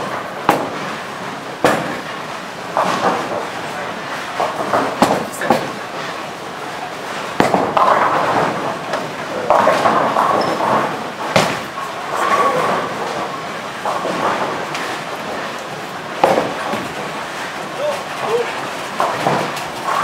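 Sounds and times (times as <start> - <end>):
sharp hard bowling knocks: 0.0 - 3.6, 4.3 - 5.8, 7.3 - 17.6, 18.8 - 20.0
clatter of voices in a hall: 0.0 - 20.0.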